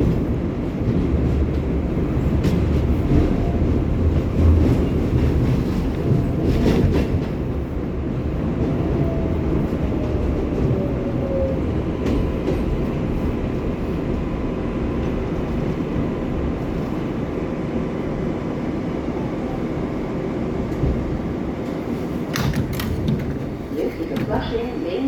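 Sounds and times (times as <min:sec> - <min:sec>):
subway train rumble: 0:00.0 - 0:25.0.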